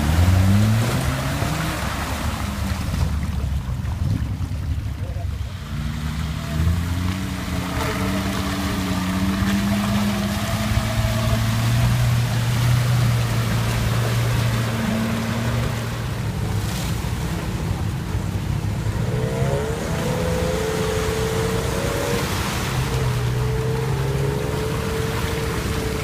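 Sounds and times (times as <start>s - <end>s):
buggy engine running: 0.0s - 26.0s
tracked vehicle engine whine: 0.0s - 26.0s.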